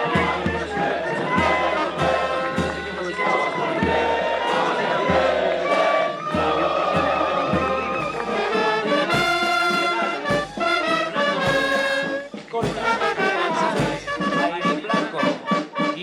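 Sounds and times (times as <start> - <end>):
low drum beat: 0.0 - 14.8
brass band playing: 0.0 - 16.0.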